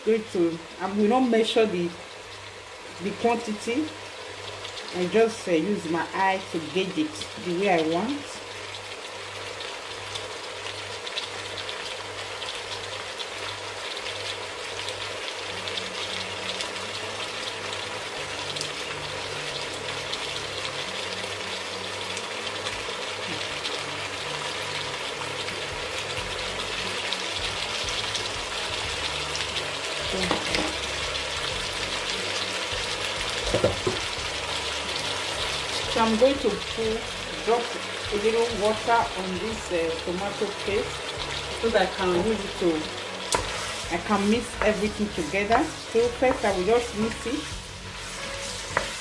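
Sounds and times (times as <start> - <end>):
potatoes sizzling in oil: 0.0 - 49.0.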